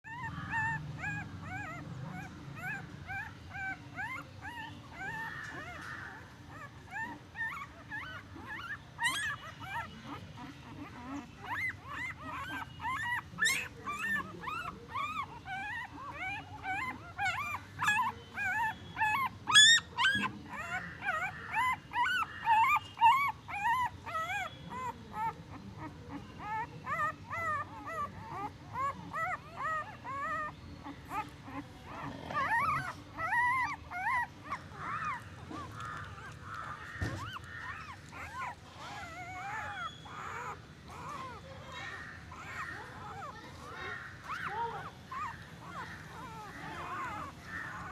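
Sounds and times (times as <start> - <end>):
puppies whimpering and squeaking: 0.0 - 47.9.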